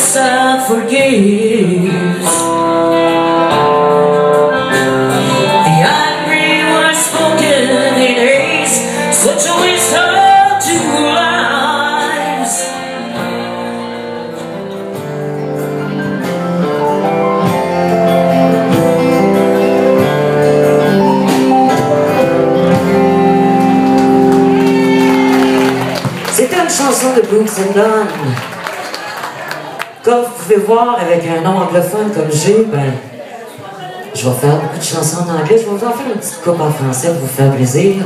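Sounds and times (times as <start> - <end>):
country band playing: 0.0 - 33.0, 34.1 - 38.0.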